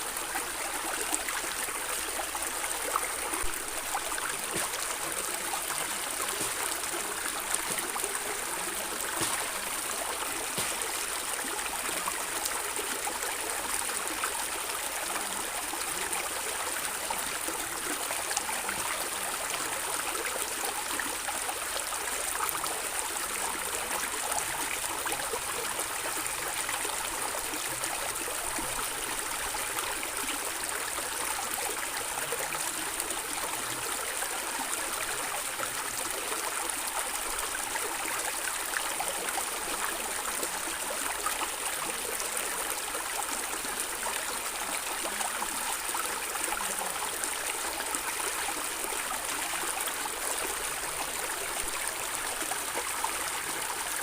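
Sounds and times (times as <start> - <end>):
stream gurgling and trickling: 0.0 - 54.0.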